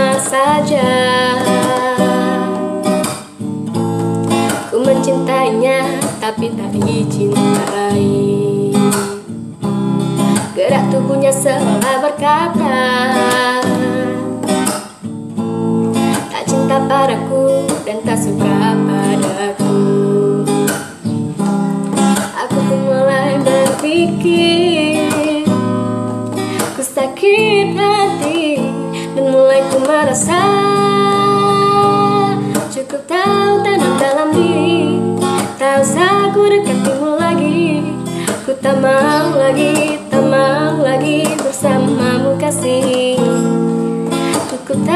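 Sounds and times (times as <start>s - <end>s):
woman singing: 0.0s - 3.4s, 4.3s - 9.3s, 10.2s - 14.8s, 15.9s - 44.9s
strummed acoustic guitar: 0.0s - 44.9s.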